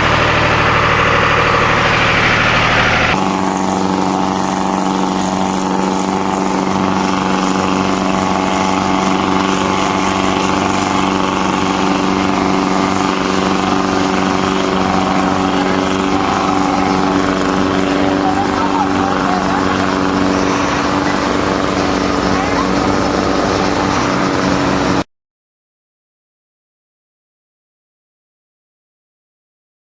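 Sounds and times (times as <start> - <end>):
motorboat diesel engine running: 0.0 - 25.1.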